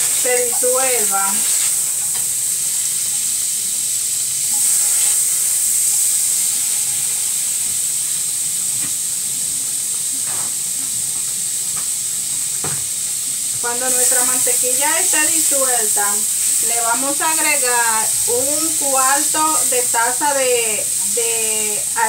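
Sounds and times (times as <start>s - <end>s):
butter sizzling in a frying pan: 0.0s - 22.0s.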